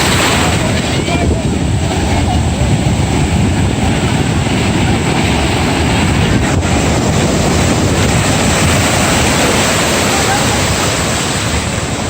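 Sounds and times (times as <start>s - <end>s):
surf rushing: 0.0s - 12.0s
wind buffeting microphone: 0.0s - 12.0s.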